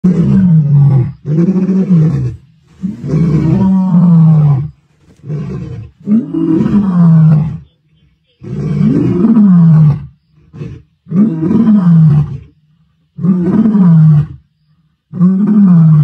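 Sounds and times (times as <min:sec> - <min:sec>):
lions roaring: 0:00.0 - 0:07.6, 0:08.4 - 0:12.6, 0:13.2 - 0:14.5, 0:15.1 - 0:16.0.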